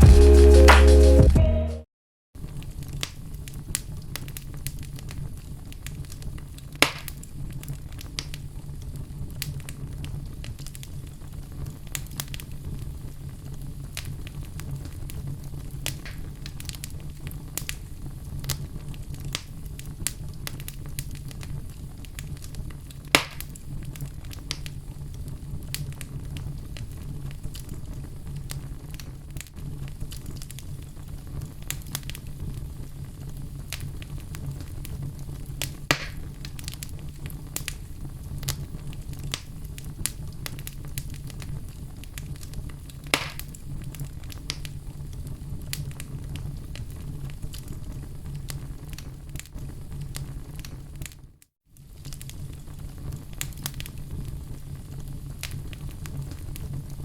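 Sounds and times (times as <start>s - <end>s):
fire crackling: 2.7s - 57.0s.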